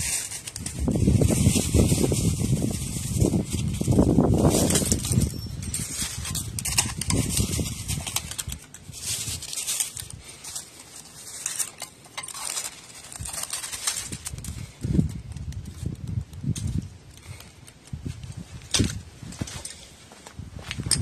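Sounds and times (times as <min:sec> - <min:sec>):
dry leaves rustling and crackling: 0:00.0 - 0:19.8.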